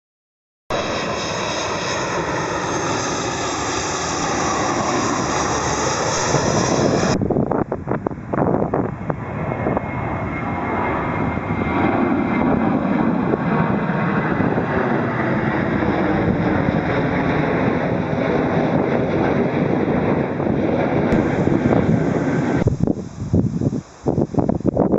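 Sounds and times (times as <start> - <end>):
jet engines running: 0.7 - 24.9.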